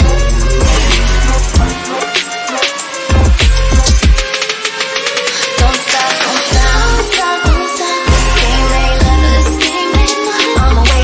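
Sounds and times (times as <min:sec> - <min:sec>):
electronic hip-hop music: 0:00.0 - 0:11.0.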